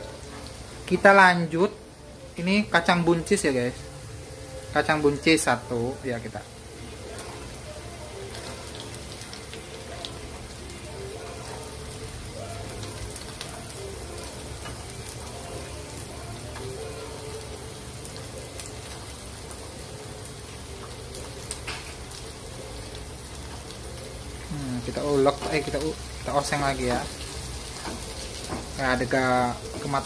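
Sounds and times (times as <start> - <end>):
beans sizzling in oil: 0.0 - 30.0.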